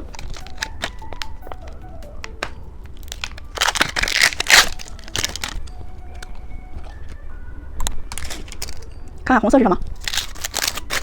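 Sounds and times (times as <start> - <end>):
plastic packaging crinkling: 0.0 - 7.2, 7.9 - 9.0, 9.8 - 11.0.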